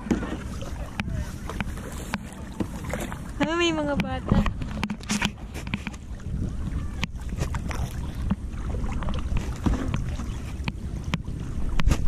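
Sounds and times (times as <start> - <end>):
paddle splashing water: 0.0 - 12.0
wind rumble on microphone: 0.0 - 12.0.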